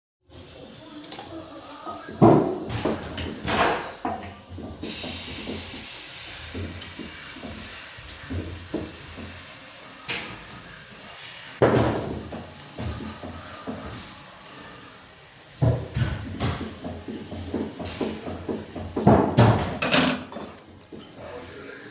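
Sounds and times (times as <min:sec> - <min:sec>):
utensils clattering against pans: 0:00.3 - 0:09.4, 0:11.6 - 0:14.9, 0:15.6 - 0:21.6
food sizzling in a pan: 0:00.3 - 0:19.8, 0:20.5 - 0:21.9.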